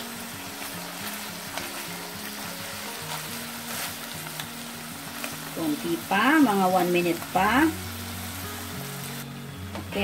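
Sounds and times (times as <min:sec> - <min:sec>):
quiet background music: 0:00.0 - 0:10.0
squid sizzling in oil: 0:00.0 - 0:10.0.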